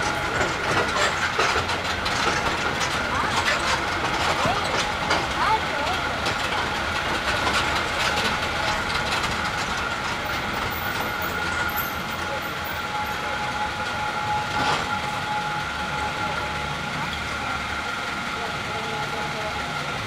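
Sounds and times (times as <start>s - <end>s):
tram rolling on paved paths: 0.0s - 20.0s.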